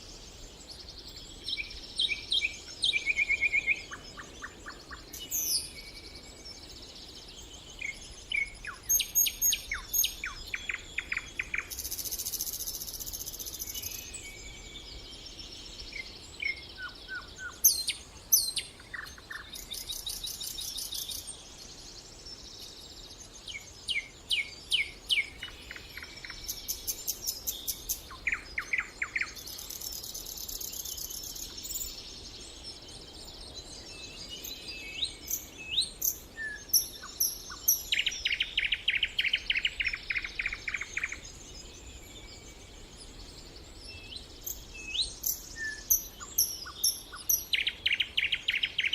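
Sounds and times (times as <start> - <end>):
songbirds chirping and whistling: 0.0 - 48.9.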